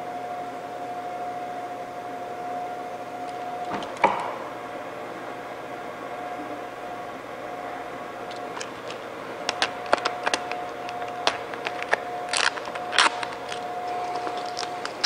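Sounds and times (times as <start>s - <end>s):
fan motor humming: 0.0s - 15.0s.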